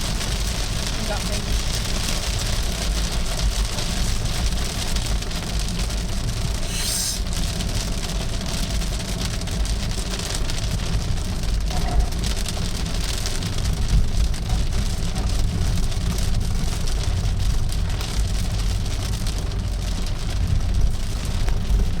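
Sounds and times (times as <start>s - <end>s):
car driving on wet road: 0.0s - 6.6s, 7.3s - 22.0s
heavy rain on a car: 0.0s - 6.6s, 7.2s - 22.0s.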